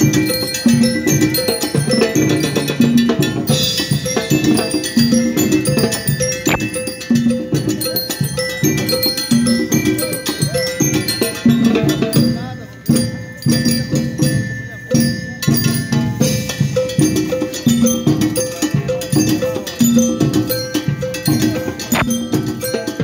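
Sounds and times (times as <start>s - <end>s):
bell lyres ringing melody: 0.0s - 23.0s
drums keeping a steady beat: 0.0s - 23.0s.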